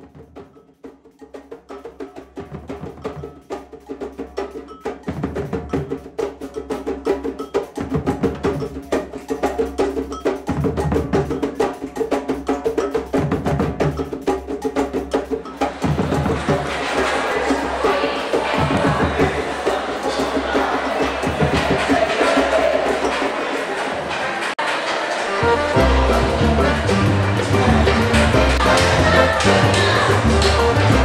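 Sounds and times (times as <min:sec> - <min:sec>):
percussion music: 0:00.0 - 0:31.0.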